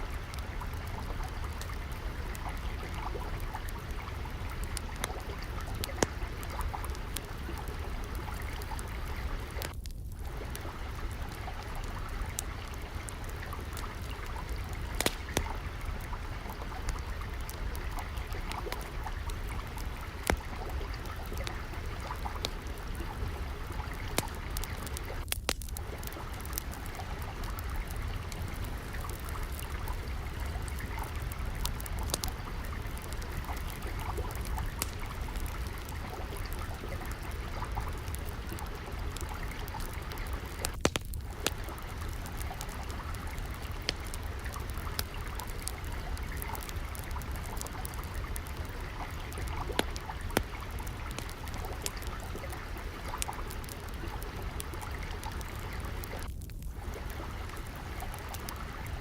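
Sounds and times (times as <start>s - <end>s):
water trickling: 0.0s - 59.0s
wood fire crackling and popping: 0.0s - 59.0s.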